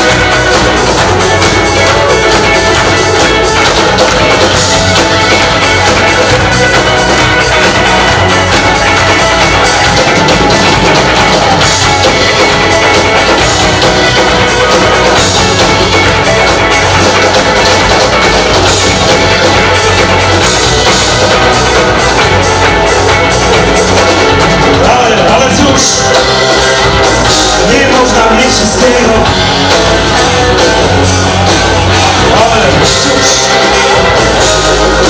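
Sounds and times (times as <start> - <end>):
drum kit: 0.0 - 35.0
electric bass: 0.0 - 35.0
electric guitar: 0.0 - 35.0.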